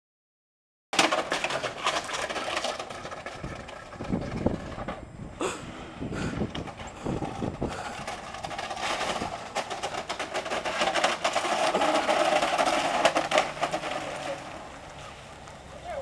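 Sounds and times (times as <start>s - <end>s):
computer scraping and rattling on ground: 1.0s - 15.7s.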